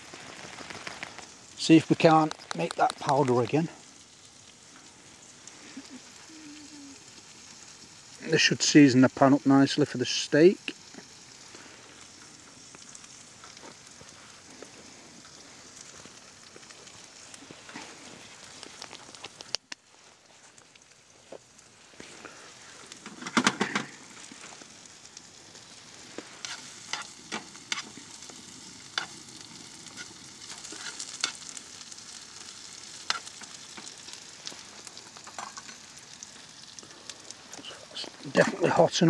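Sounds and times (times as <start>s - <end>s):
onions sizzling in frying pan: 0.0s - 39.0s.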